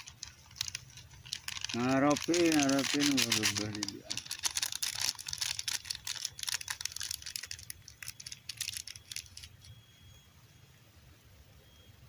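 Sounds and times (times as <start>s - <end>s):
small things clicking and rattling: 0.0s - 9.7s.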